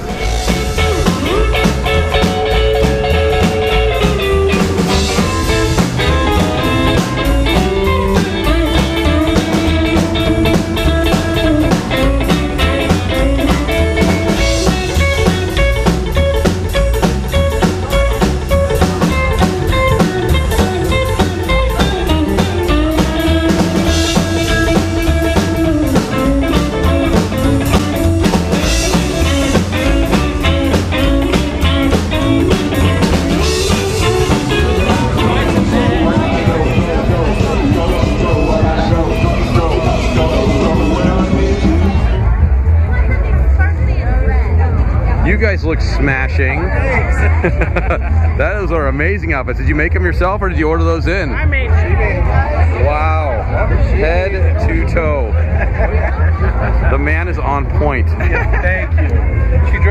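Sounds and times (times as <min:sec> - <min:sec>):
electric guitar: 0:00.0 - 0:49.9
drum kit beat: 0:00.0 - 0:59.9.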